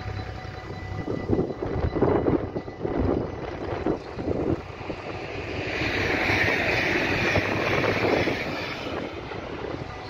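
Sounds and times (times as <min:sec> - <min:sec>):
passenger train passing: 0:00.0 - 0:10.0.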